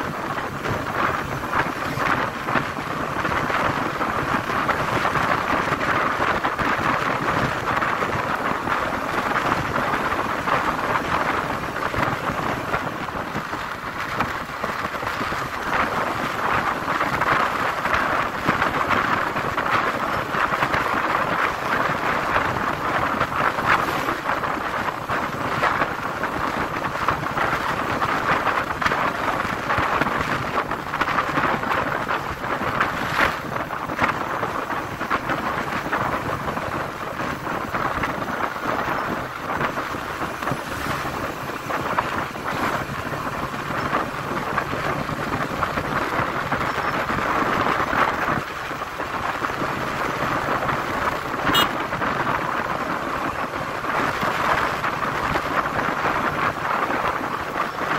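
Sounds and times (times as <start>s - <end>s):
motorcycle road noise: 0.0s - 57.9s
wind rush on microphone: 0.0s - 57.9s.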